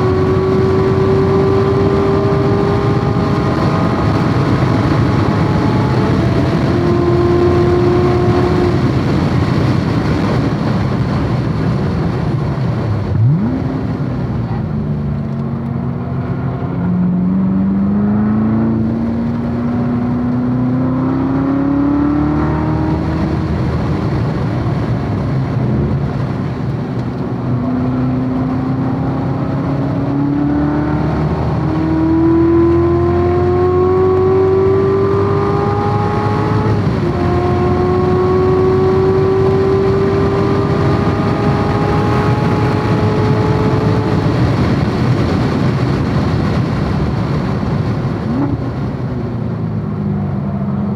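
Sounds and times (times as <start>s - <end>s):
car engine at hard throttle: 0.0s - 50.9s
wind and tyre noise: 0.0s - 50.9s.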